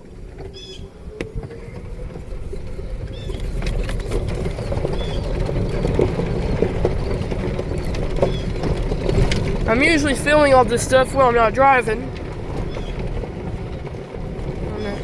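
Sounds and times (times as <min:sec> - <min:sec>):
vehicle engine running: 0:00.0 - 0:15.0
vehicle rattling over rough ground: 0:00.0 - 0:15.0.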